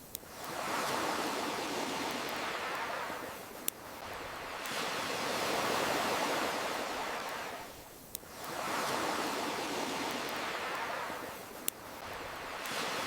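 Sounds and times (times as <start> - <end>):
ocean waves washing in: 0.2 - 13.0.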